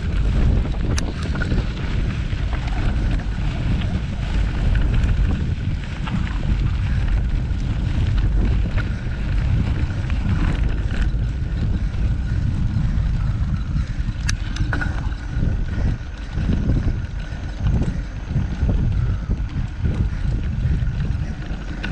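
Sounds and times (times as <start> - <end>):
sharp clicks and rattles: 0.0 - 21.9
wind buffeting microphone: 0.0 - 21.9.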